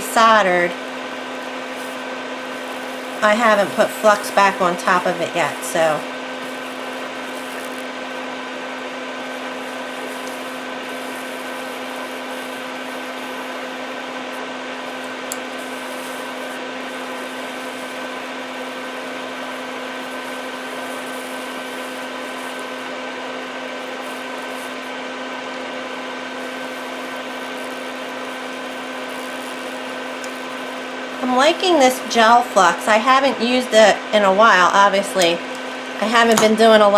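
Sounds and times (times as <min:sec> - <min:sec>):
electric fan humming: 0:00.0 - 0:36.9.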